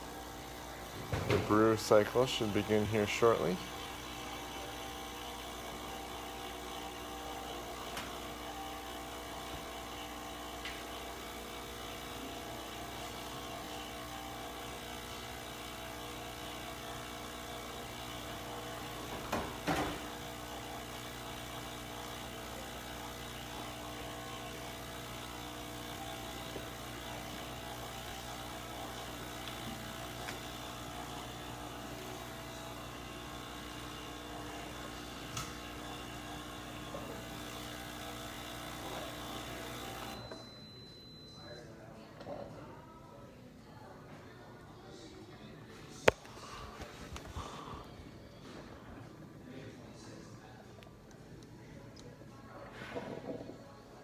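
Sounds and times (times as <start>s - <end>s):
coffee machine humming: 0.0s - 41.6s, 46.0s - 49.0s.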